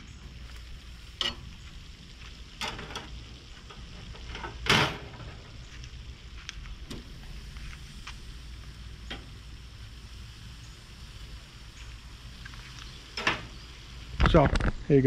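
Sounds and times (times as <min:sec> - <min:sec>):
steak sizzling on grill: 0:00.0 - 0:15.0.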